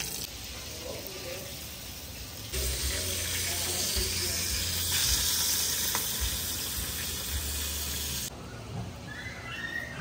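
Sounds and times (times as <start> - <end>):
fish frying in hot oil: 0.0 - 8.3.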